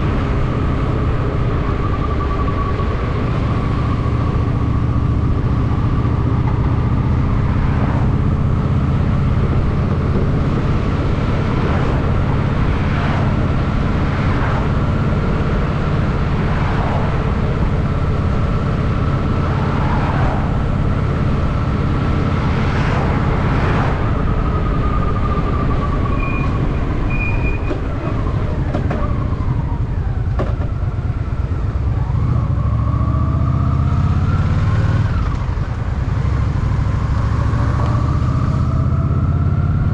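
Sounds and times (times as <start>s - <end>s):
motorcycle engine cruising: 0.0s - 39.9s
vehicles swishing past: 0.0s - 39.9s.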